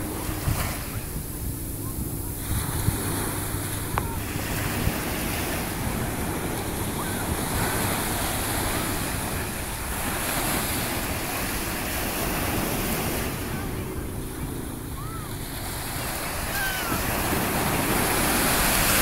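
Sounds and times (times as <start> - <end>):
surf breaking at shoreline: 0.0 - 19.0
wind buffeting microphone: 0.0 - 19.0.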